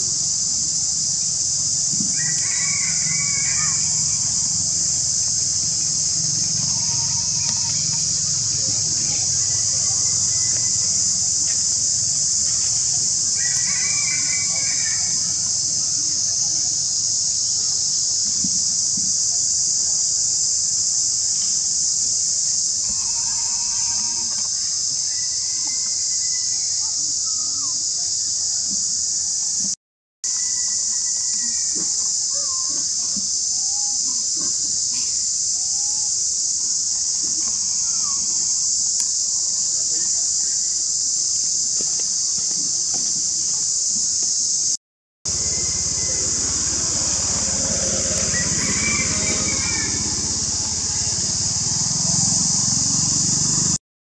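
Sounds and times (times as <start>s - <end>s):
high-pitched insect chorus: 0.0s - 53.8s.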